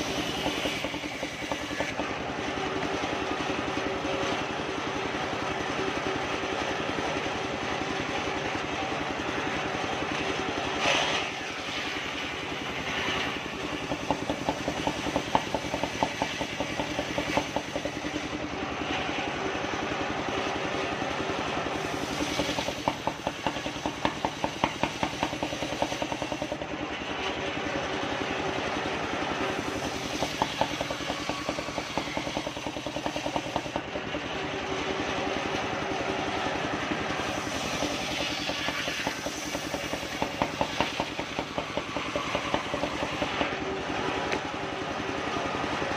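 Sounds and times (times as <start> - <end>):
circular saw engine running: 0.0 - 45.9.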